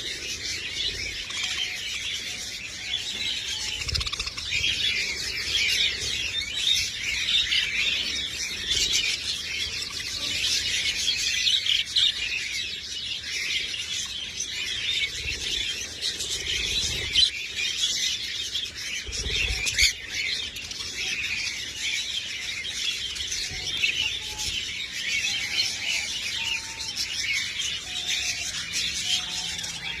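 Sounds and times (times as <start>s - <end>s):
flock of budgerigars chattering: 0.0s - 30.0s.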